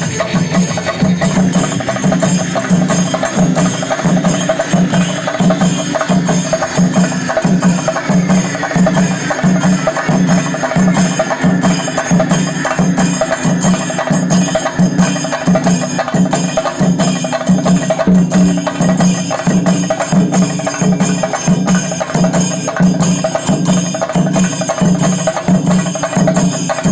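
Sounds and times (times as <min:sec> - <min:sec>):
drums beaten with sticks: 0:00.0 - 0:26.9
hand cymbals clashing: 0:00.0 - 0:26.9.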